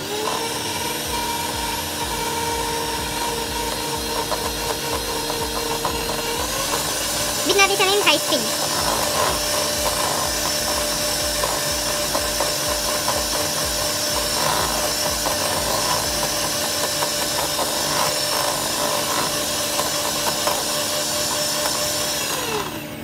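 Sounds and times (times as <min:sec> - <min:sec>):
beaters tapping and scraping bowl: 0:00.0 - 0:22.6
electric hand mixer running: 0:00.0 - 0:23.0.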